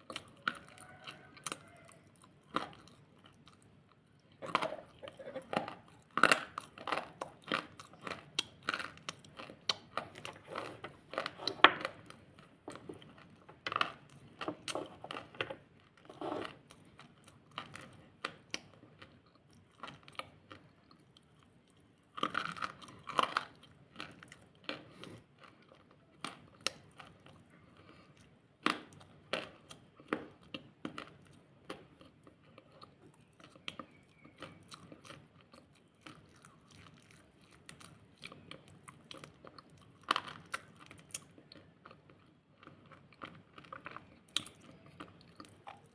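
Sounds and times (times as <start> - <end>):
crunching and chewing: 0.0 - 45.9.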